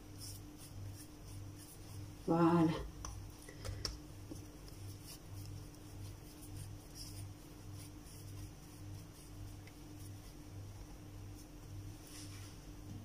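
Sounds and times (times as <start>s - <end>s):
hands patting dough: 0.0s - 12.8s
hands rubbing dough: 0.0s - 12.9s.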